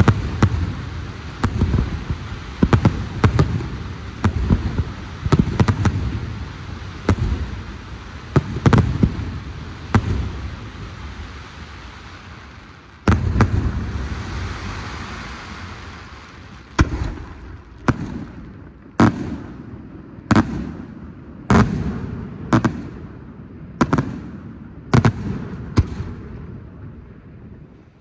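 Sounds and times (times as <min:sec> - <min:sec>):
firework bangs with echo: 0:00.0 - 0:26.8.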